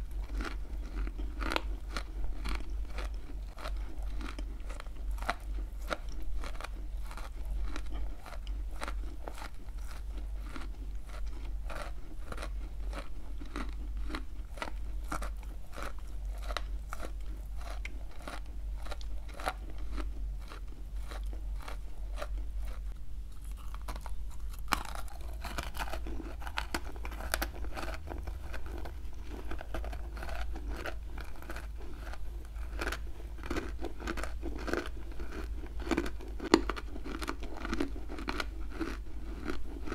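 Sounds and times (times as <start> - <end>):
crisp chewing crunches: 0.0 - 39.9.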